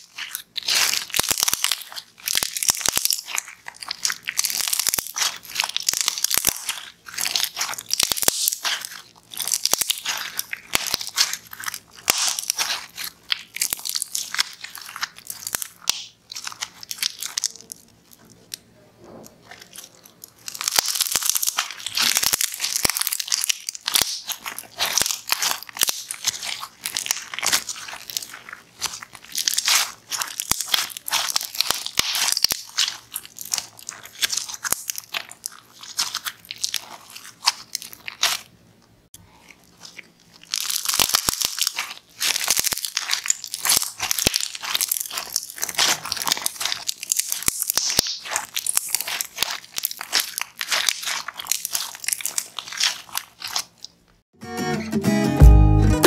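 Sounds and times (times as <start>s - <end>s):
slime crackling and popping: 0.0s - 54.4s.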